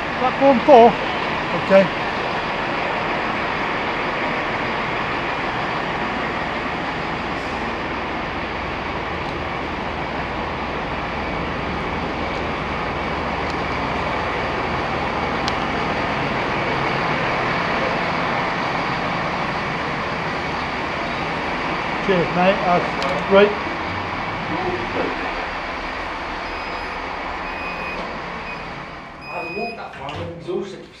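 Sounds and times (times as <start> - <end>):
trains humming at a platform: 0.0 - 30.8.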